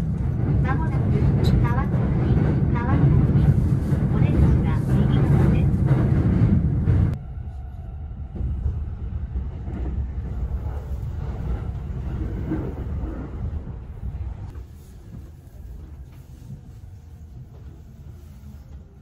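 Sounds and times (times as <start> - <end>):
train rumble from inside carriage: 0.0 - 19.0.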